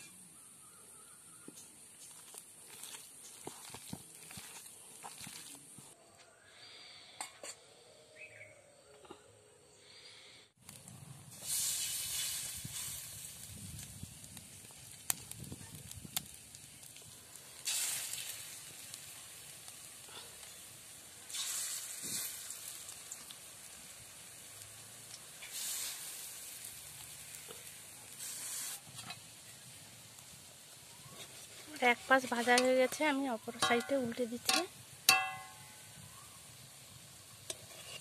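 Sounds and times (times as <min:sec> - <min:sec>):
batter sizzling in hot oil: 0:01.7 - 0:06.0, 0:10.7 - 0:38.0.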